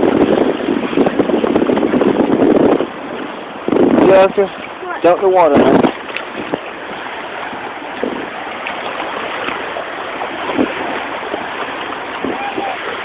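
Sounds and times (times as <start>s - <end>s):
small waves washing ashore: 0.0s - 13.0s.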